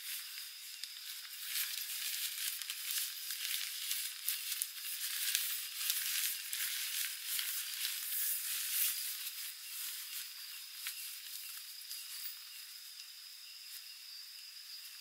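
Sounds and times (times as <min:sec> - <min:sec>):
nylon tent fabric rustling: 0:00.0 - 0:12.6
steady high hiss: 0:00.0 - 0:15.0.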